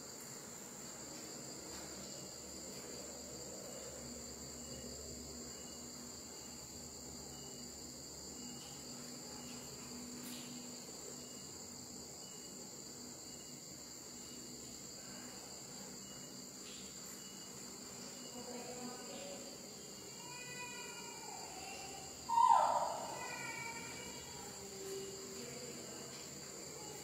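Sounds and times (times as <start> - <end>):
crickets trilling: 0.0 - 27.0.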